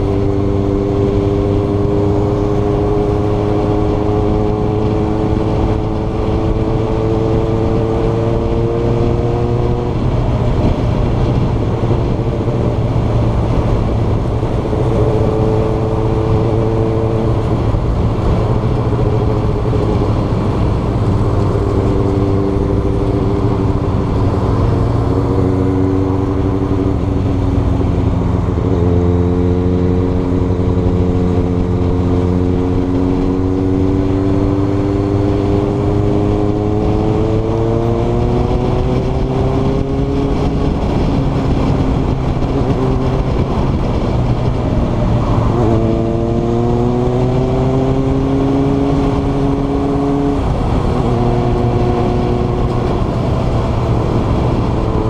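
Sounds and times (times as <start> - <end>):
motorcycle engine: 0.0 - 55.0
wind rush: 0.0 - 55.0.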